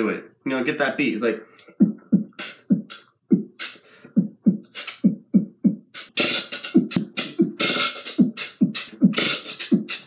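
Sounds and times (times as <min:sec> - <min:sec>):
beatboxing hissing snare and hi-hat: 0:01.6 - 0:10.0
beatboxing kick-drum thumps: 0:01.6 - 0:10.0.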